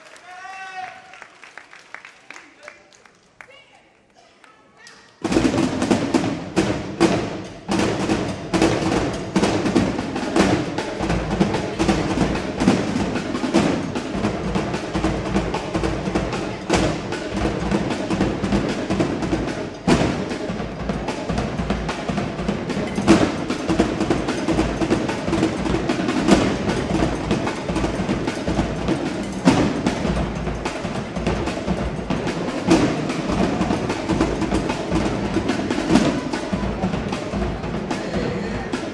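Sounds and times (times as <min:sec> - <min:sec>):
fast drum cadence: 0:05.2 - 0:38.9.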